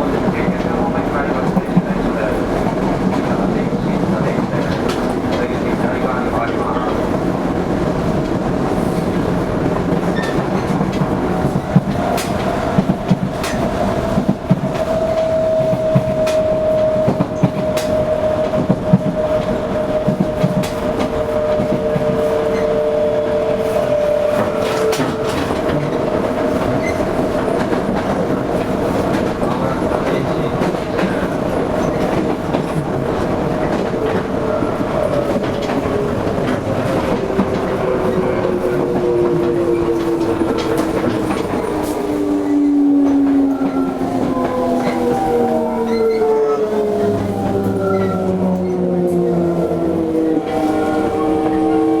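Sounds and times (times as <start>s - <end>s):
electric train rumble and whine: 0.0s - 52.0s.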